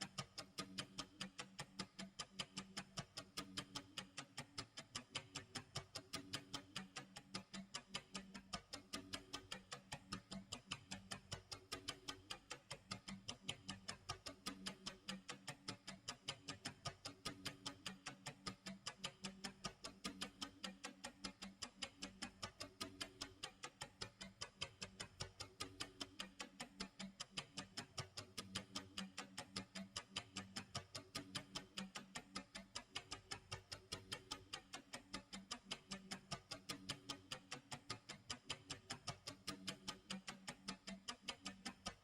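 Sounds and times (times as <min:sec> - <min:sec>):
clock ticking: 0:00.2 - 0:42.0.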